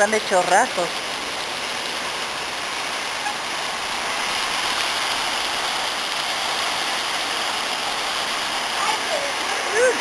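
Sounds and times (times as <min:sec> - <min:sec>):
heavy rain hissing: 0:00.0 - 0:10.0
water pouring from spouts: 0:00.0 - 0:10.0.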